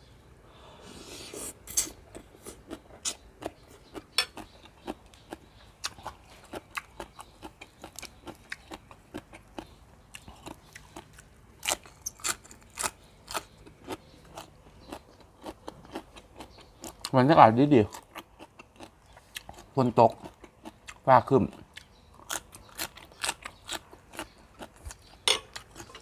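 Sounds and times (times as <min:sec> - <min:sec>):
crunchy chewing: 0:01.2 - 0:26.0.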